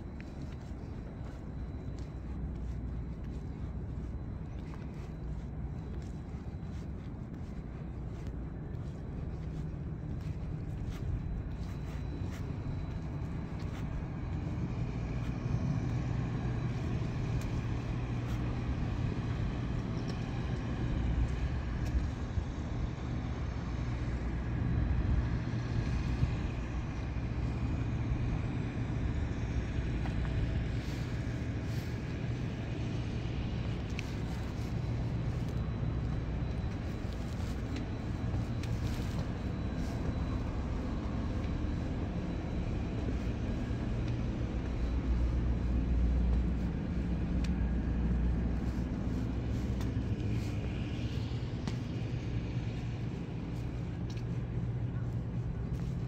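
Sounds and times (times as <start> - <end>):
low machine rumble: 0.0 - 56.0.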